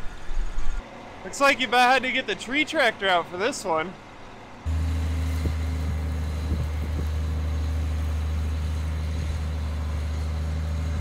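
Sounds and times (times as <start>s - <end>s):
diesel tractor engines under load: 0.9s - 11.0s.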